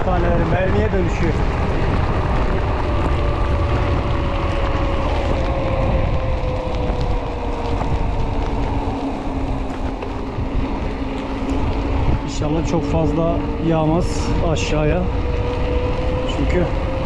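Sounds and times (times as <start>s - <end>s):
tyres on wet road: 0.0s - 17.0s
wind rushing over microphone: 0.0s - 17.0s.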